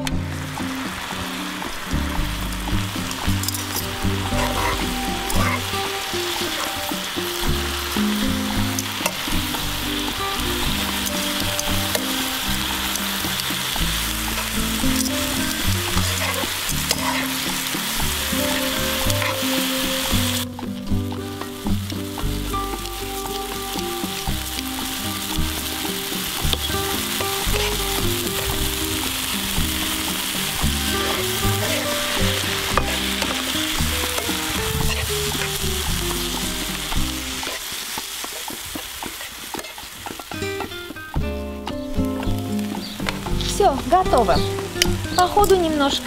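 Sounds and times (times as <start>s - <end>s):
soft background music: 0.0s - 37.6s, 40.4s - 46.0s
greens sizzling in a pan: 0.0s - 46.0s
metal tongs stirring: 3.2s - 41.0s.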